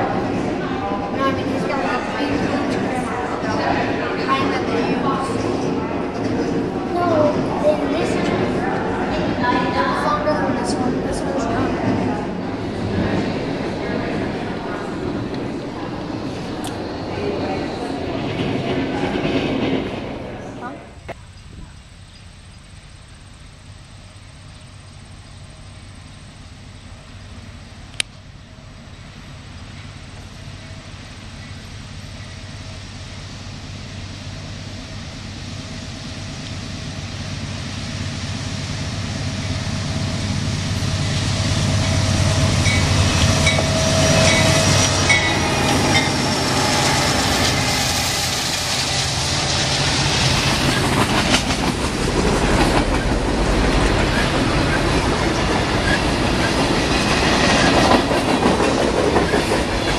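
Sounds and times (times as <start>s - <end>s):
diesel locomotive engines passing: 0.0s - 59.9s
freight cars rumbling on rails: 0.0s - 59.9s.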